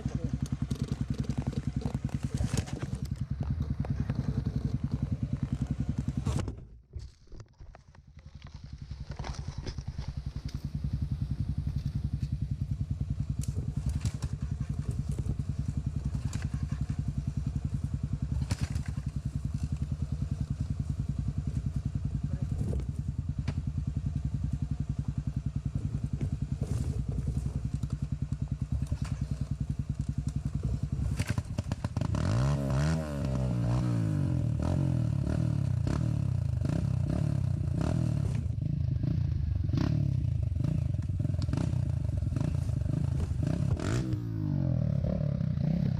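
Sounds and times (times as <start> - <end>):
motorcycle engine idling: 0.0 - 6.4, 8.1 - 45.9
motorcycle engine revving: 0.0 - 6.6, 8.2 - 45.9.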